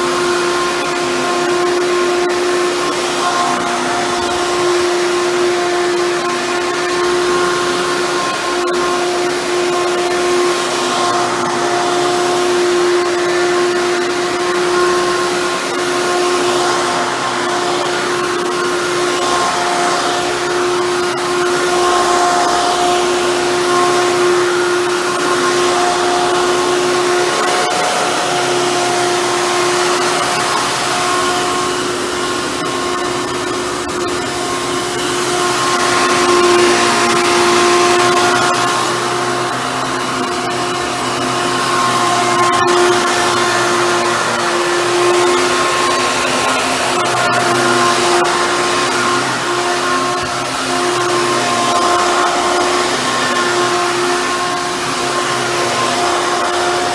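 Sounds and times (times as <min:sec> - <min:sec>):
upright vacuum cleaner running: 0:00.0 - 0:56.9.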